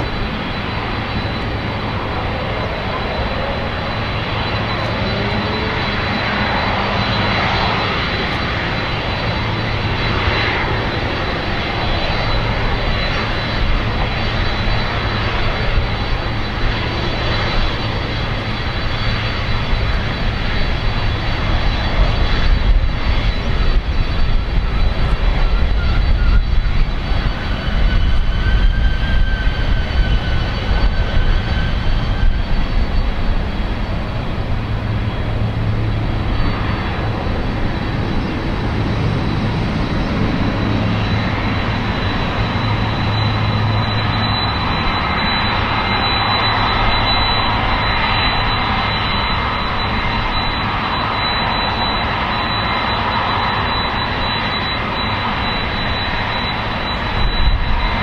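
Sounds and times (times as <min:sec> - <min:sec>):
jet engines rumbling with whine: 0:00.0 - 0:58.0.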